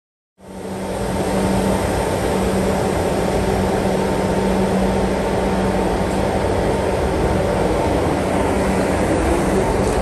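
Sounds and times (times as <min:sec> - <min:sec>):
station noise: 0:00.4 - 0:10.0
subway train equipment humming: 0:00.4 - 0:10.0.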